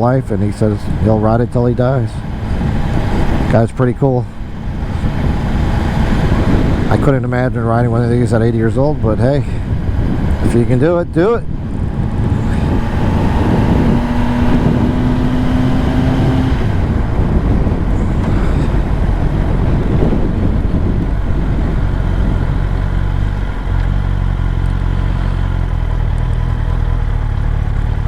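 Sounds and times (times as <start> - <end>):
motorcycle engine running: 0.0 - 28.0
wind and road noise: 0.0 - 28.0.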